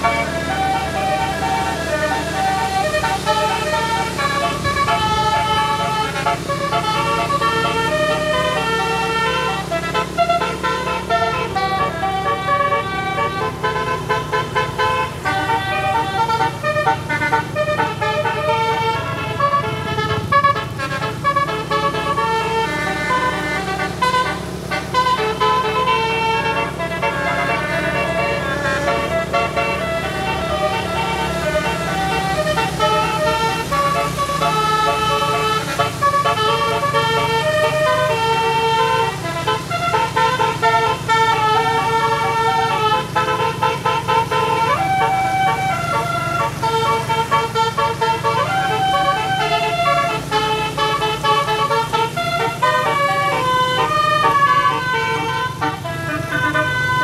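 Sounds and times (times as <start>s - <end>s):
air horn playing melody: 0.0s - 57.0s
bus engine humming: 0.0s - 57.0s.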